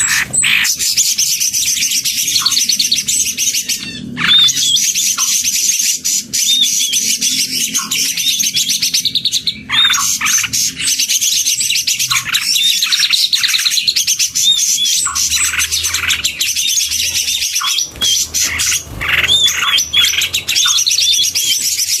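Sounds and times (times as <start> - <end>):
chorus of birds singing: 0.0 - 22.0.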